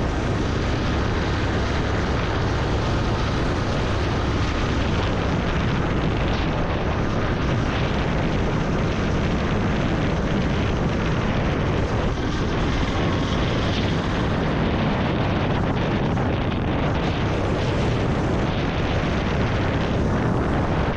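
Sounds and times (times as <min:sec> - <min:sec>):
motorcycle engine rumble: 0:00.0 - 0:20.9
wind rushing over microphone: 0:00.0 - 0:20.9.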